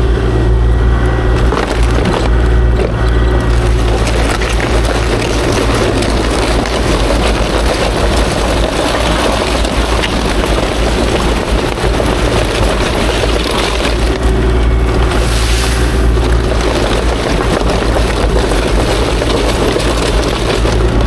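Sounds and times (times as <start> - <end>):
excavator diesel engine droning: 0.0 - 21.0.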